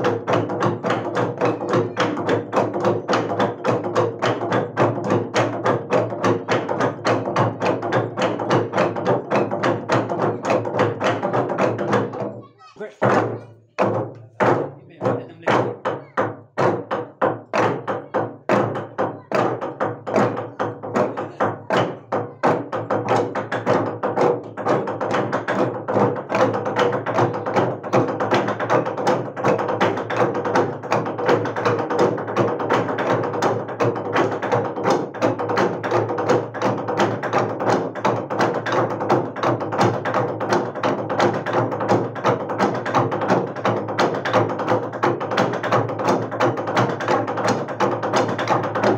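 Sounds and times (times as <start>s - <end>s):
log drum beaten with wooden beaters: 0.0s - 48.9s.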